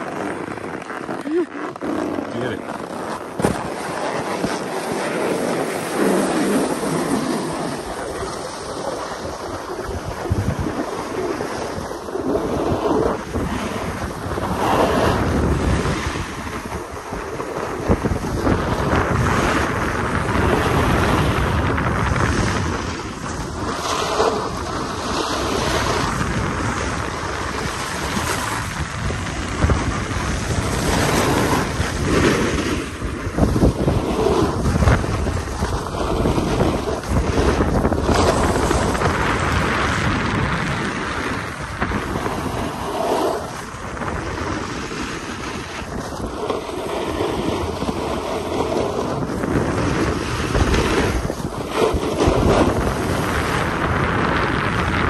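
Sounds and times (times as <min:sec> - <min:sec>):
snowboard edges scraping snow: 0:00.0 - 0:55.0
wind buffeting microphone: 0:00.0 - 0:55.0.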